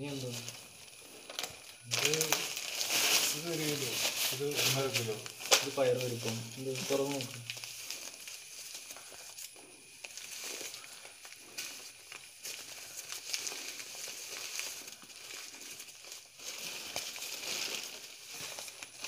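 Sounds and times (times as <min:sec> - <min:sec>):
paper bag crinkling: 0:00.0 - 0:19.0
sharp crackles: 0:00.0 - 0:19.0.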